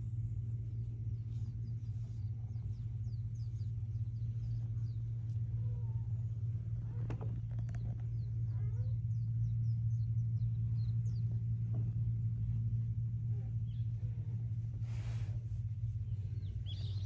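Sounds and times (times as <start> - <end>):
low mechanical hum: 0.0 - 17.0
small birds chirping: 0.2 - 17.0.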